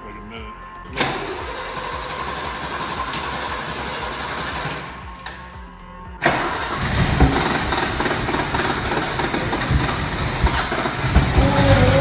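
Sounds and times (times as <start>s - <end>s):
car engine firing up roughly: 0.9s - 5.4s, 6.2s - 12.0s
starter motor cranking engine: 0.9s - 5.4s, 6.2s - 12.0s.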